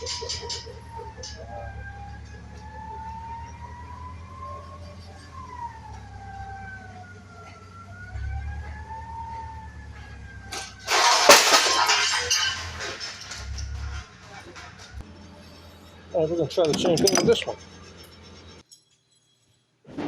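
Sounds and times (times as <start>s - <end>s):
siren wailing: 0.0s - 18.6s.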